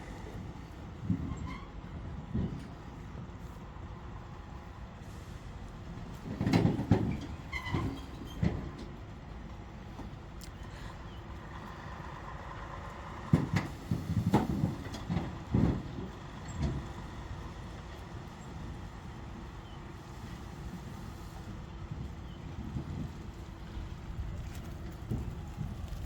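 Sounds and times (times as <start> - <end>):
diesel truck engine running low: 0.0 - 26.0.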